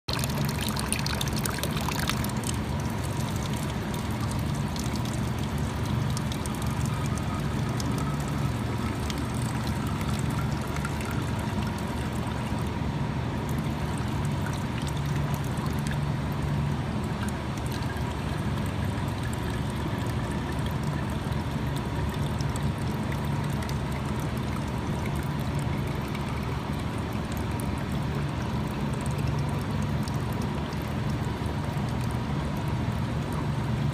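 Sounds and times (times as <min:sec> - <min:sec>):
low machine hum: 0:00.0 - 0:33.9
water pouring and trickling: 0:00.1 - 0:33.9.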